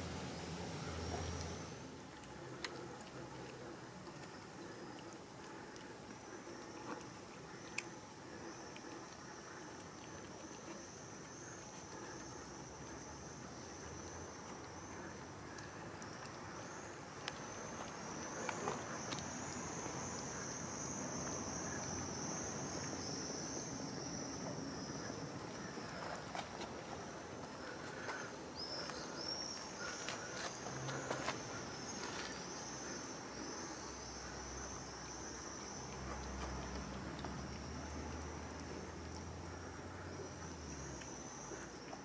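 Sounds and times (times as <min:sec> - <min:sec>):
cats chewing: 0:00.0 - 0:42.0
faint outdoor hum: 0:00.0 - 0:42.0
insects chirring: 0:01.8 - 0:42.0.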